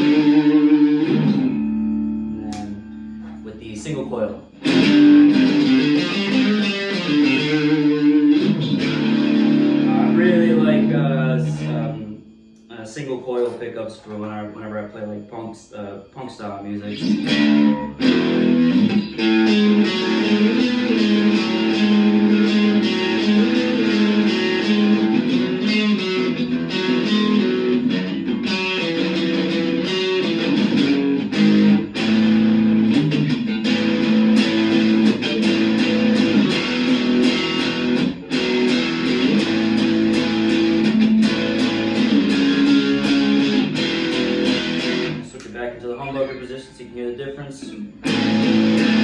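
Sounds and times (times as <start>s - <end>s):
distorted electric guitar riff: 0.0s - 49.0s.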